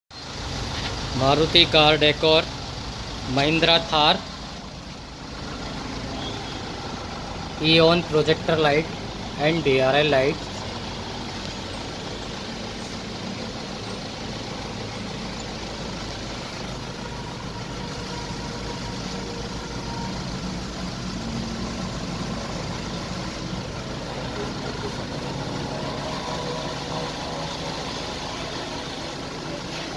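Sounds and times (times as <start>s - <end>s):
car engine idling: 0.1s - 29.9s.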